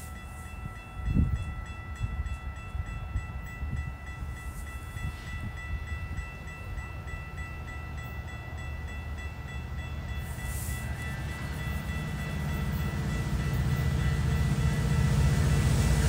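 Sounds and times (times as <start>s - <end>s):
diesel train engine rumble: 0.0s - 16.0s.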